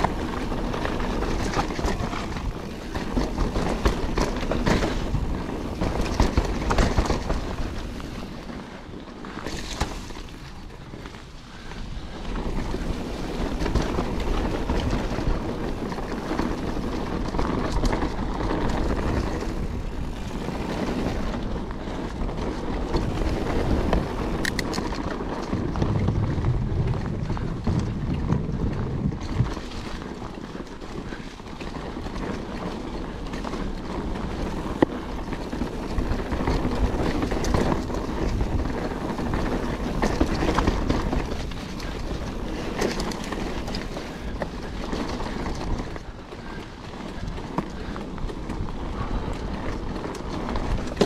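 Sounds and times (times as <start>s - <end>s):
bike clattering over bumps: 0.0s - 51.0s
bike tyres rolling on dirt: 0.0s - 51.0s
tyres rumbling on wooden boardwalk: 0.0s - 51.0s
wind buffeting microphone: 0.0s - 51.0s.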